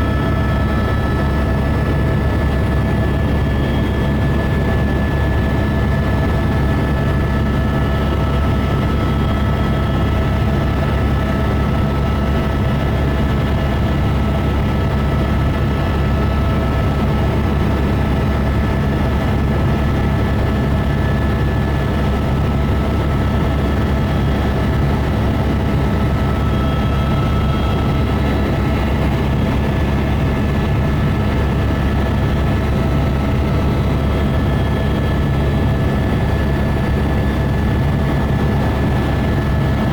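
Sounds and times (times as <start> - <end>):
helicopter rotor and engine drone: 0.0 - 39.9
high turbine whine: 0.0 - 39.9.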